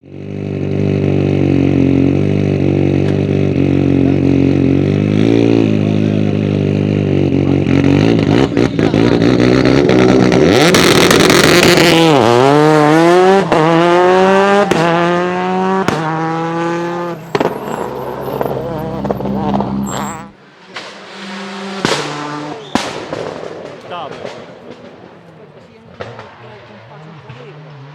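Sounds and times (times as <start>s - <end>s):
rally car engine revving: 0.0s - 27.9s.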